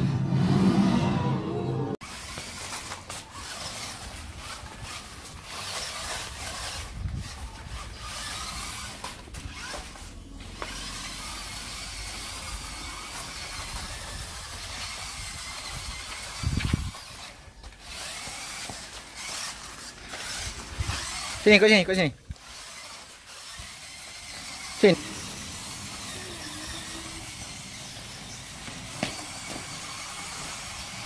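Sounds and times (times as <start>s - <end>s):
toy car motors whirring: 2.0s - 31.0s.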